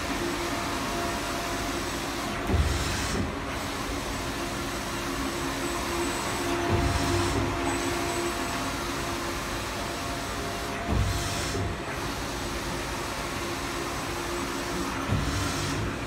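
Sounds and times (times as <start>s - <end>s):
printer humming and whirring: 0.0s - 16.0s.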